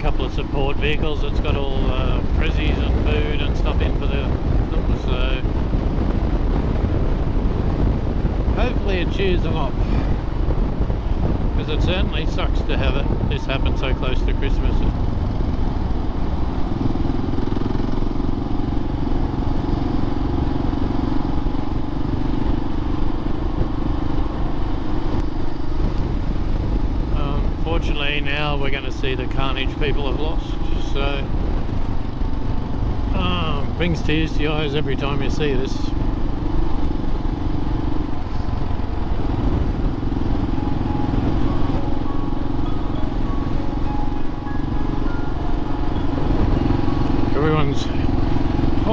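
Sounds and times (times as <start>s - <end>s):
wind on microphone: 0.0s - 19.7s, 20.5s - 28.2s, 30.2s - 48.9s
motorcycle engine cruising: 0.0s - 48.9s.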